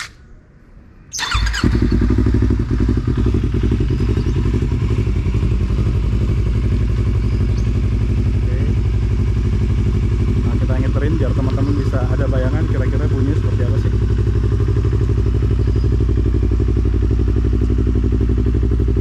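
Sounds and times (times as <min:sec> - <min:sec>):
motorcycle engine starting: 0:01.1 - 0:19.0
motorcycle engine idling: 0:01.2 - 0:19.0.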